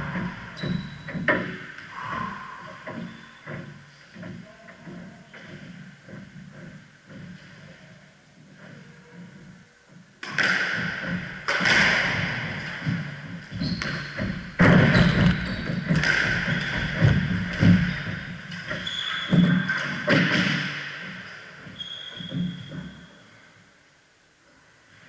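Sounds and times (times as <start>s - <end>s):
squash ball hitting rackets and walls: 0.0s - 7.6s, 10.2s - 23.1s
shoes squeaking on wooden floor: 0.0s - 10.0s, 12.2s - 23.2s.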